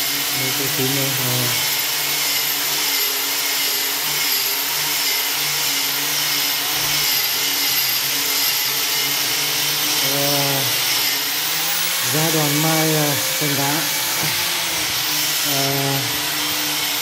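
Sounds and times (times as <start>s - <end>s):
electric power tool whirring: 0.0s - 17.0s.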